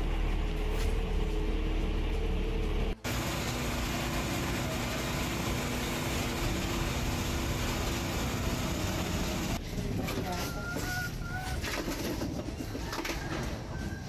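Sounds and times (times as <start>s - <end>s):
vehicle engine hum: 0.0s - 11.6s
street noise: 0.0s - 14.0s.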